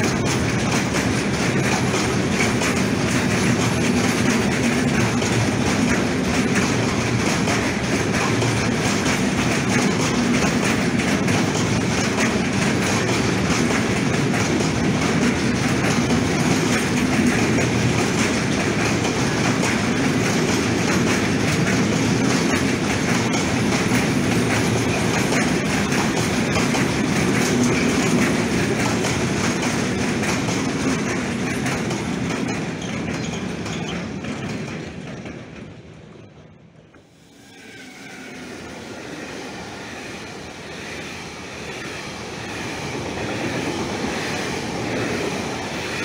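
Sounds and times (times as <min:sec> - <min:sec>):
freight train wheels on rails: 0:00.0 - 0:46.0.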